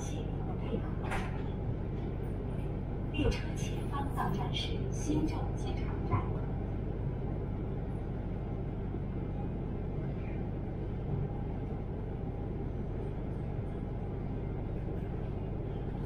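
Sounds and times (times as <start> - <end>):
train rumble inside cabin: 0.0 - 16.0.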